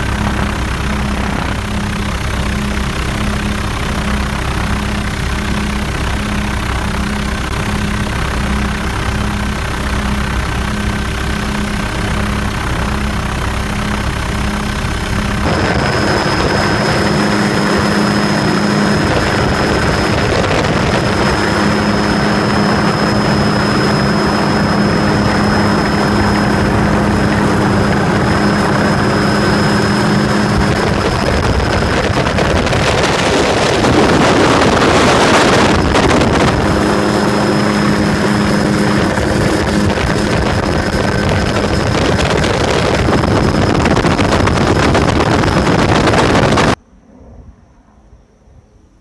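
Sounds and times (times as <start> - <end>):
motor running: 0.0 - 46.8
thin high whine: 0.0 - 49.0
wind noise: 0.0 - 49.0.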